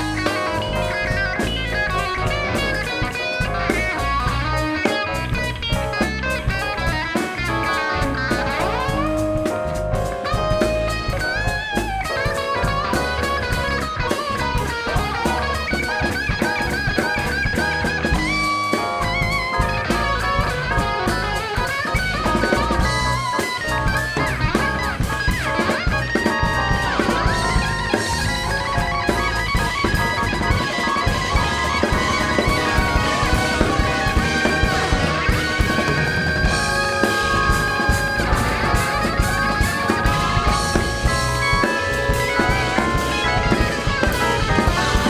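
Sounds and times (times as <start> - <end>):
electric guitar lead line: 0.0 - 45.0
funk drum kit: 0.0 - 45.0.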